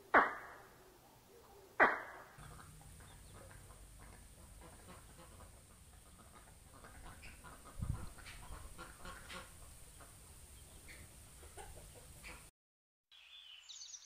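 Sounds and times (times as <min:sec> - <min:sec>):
poultry calling: 0:00.2 - 0:12.5.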